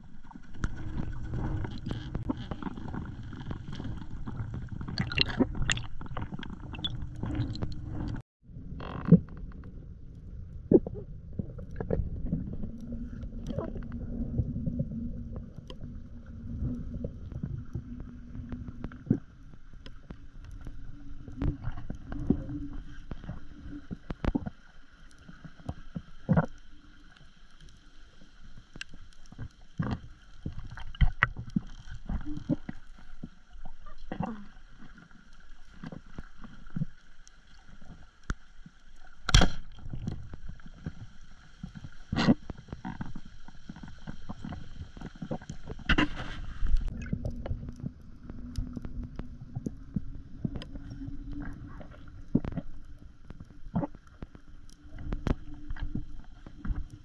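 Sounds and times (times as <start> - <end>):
underwater clicks and cracks: 0.0 - 8.2, 8.8 - 57.0
underwater rumble of moving water: 0.0 - 57.0.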